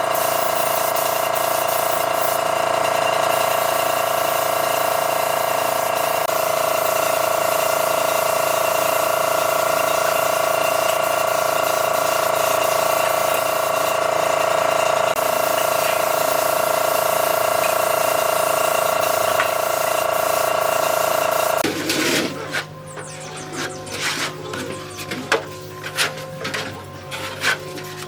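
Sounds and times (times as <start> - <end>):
power tool motor whine: 0.0 - 28.0.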